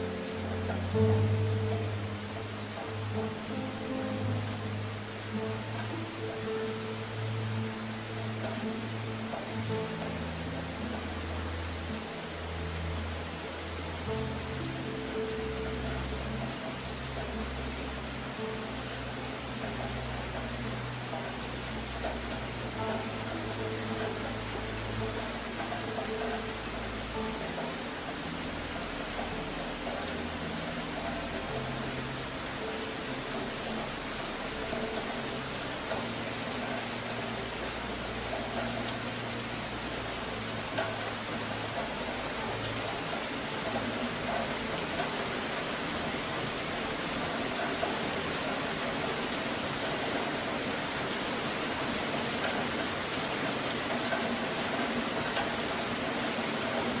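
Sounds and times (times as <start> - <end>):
dense rain: 0.0 - 57.0
low sustained music notes: 0.0 - 57.0.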